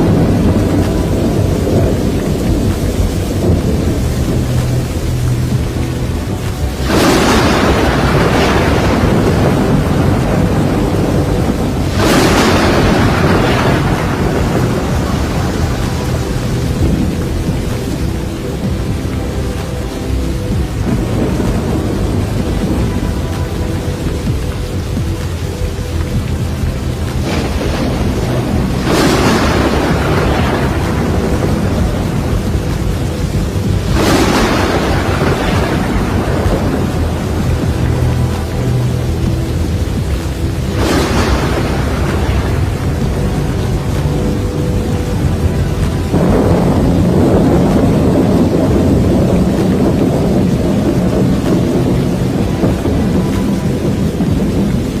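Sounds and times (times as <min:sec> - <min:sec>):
heavy rain: 0:00.0 - 0:55.0
thunder clap rumbling: 0:00.0 - 0:55.0.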